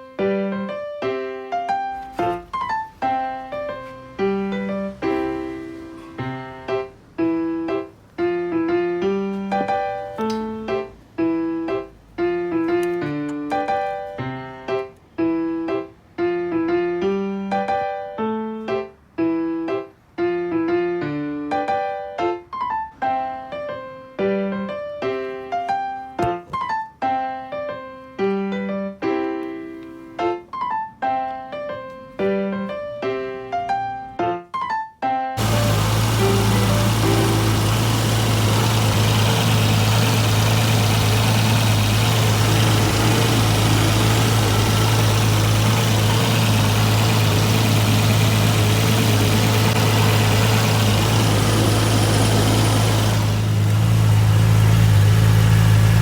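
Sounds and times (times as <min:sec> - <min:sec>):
solo piano melody: 0:00.0 - 0:56.0.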